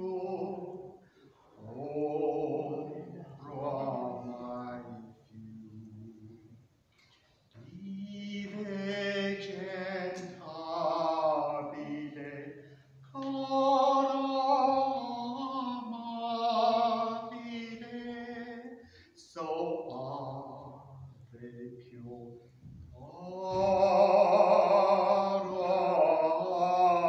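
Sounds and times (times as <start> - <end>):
man singing unaccompanied: 0.0 - 1.0, 1.6 - 6.6, 7.5 - 27.0.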